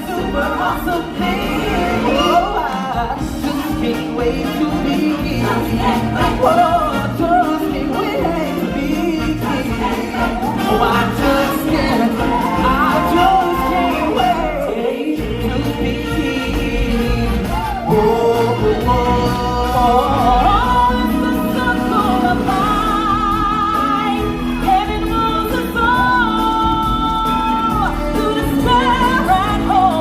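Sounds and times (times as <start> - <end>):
voices singing with vibrato: 0.0 - 30.0.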